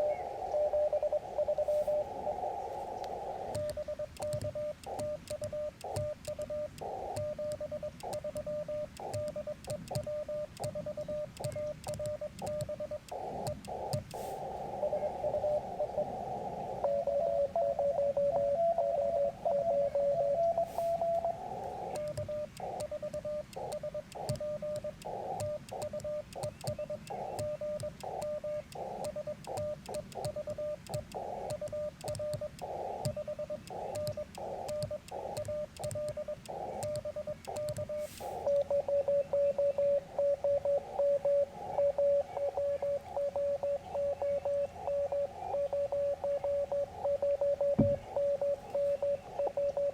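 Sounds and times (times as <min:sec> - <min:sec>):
radio band noise hiss: 0:00.0 - 0:49.9
morse code tone: 0:03.4 - 0:49.9.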